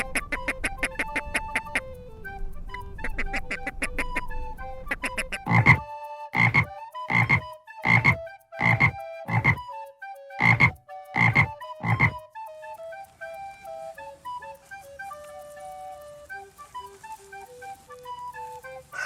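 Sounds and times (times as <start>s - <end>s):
background music with simple melody: 0.0s - 19.0s.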